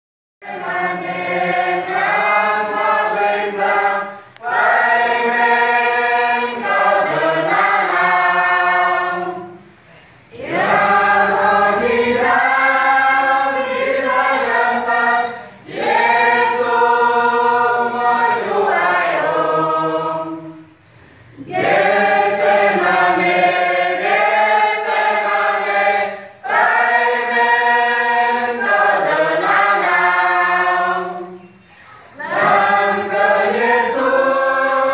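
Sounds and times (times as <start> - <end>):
choir singing a hymn: 0.4 - 34.9.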